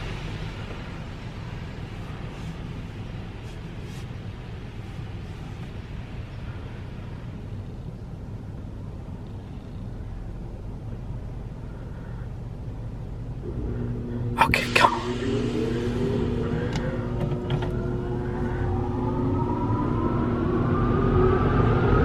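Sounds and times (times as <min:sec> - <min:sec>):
low rumble inside car wash: 0:00.0 - 0:22.0.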